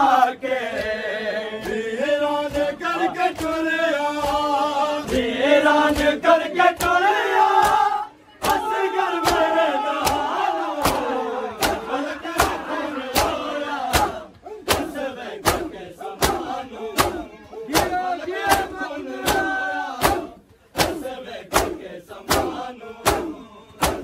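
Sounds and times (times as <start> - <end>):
crowd chanting and calling out: 0.0 - 24.0
crowd slapping chests in unison: 0.0 - 24.0.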